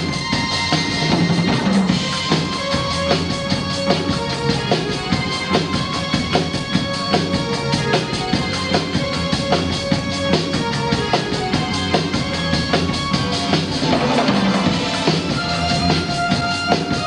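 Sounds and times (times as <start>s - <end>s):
bass: 0.0s - 17.0s
drum kit steady beat: 0.0s - 17.0s.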